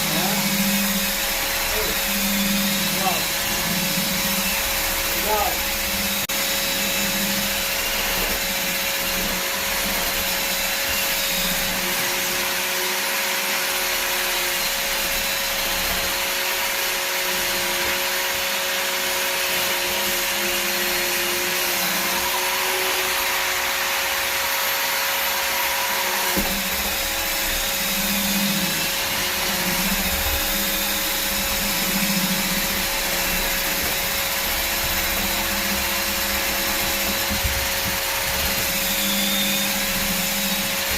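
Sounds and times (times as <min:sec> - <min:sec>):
drywall sander running: 0:00.0 - 0:40.9.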